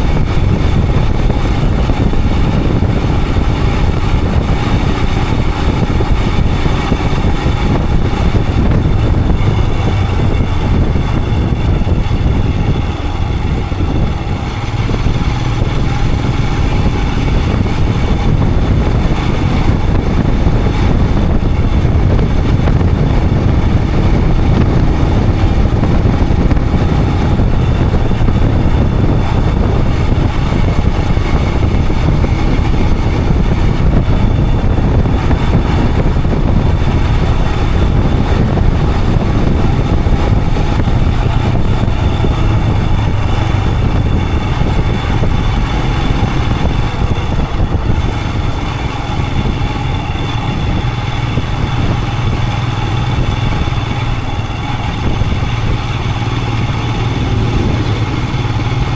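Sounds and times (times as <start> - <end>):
motorcycle engine running: 0.0 - 58.9
wind rushing on microphone: 0.0 - 58.9.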